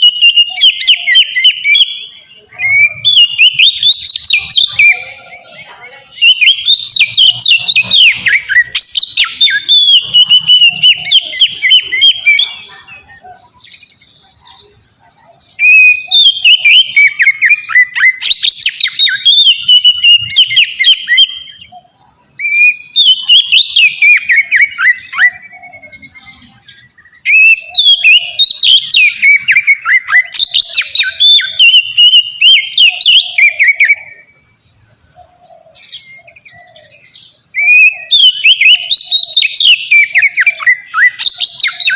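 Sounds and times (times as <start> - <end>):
bird singing whistled phrases: 0.0 - 34.6, 35.4 - 41.9.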